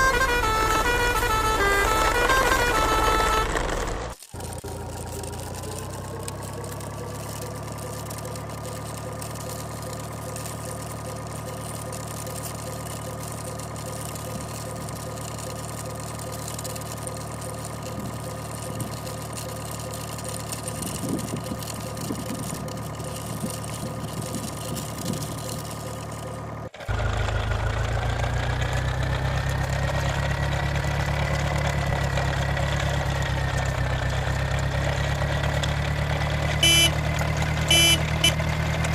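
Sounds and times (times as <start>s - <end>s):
irregular clatter: 0.0s - 38.9s
low engine with rising whine: 0.0s - 38.9s
vehicle engine running: 0.0s - 38.9s.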